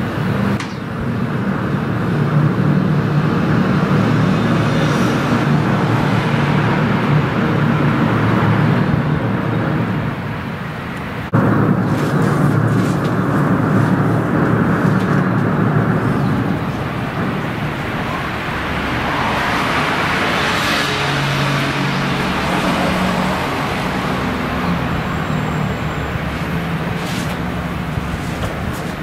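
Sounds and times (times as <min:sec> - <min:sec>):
rushing noise: 0:00.0 - 0:29.0
ship diesel engine rumbling: 0:00.0 - 0:29.0.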